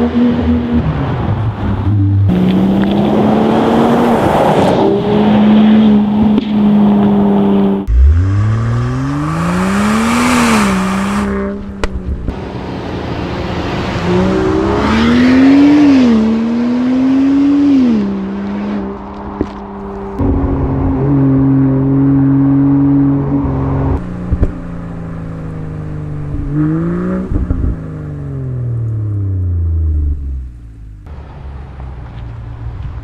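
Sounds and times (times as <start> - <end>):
car engine revving: 0.0 - 31.1.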